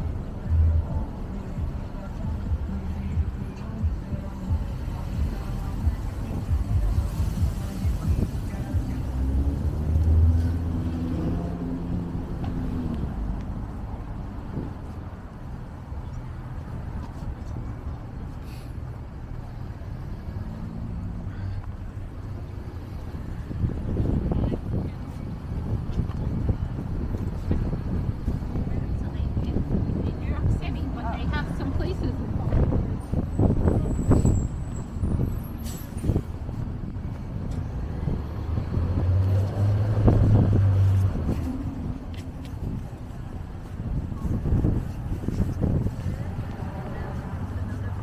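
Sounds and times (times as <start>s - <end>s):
steady low traffic rumble: 0.0s - 48.0s
vehicle engine hum: 0.0s - 48.0s.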